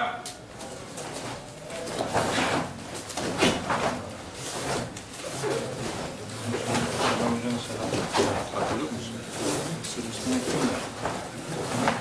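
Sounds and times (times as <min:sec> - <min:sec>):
uniforms swishing and snapping: 0:00.4 - 0:12.0.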